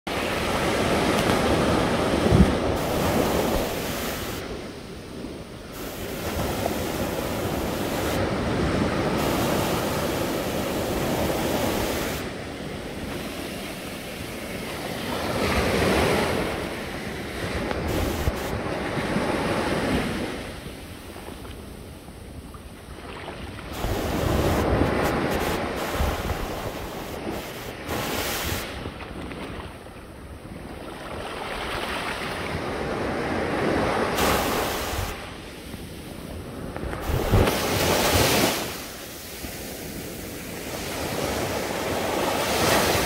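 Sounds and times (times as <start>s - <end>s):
waves breaking on shore: 0.1s - 43.0s.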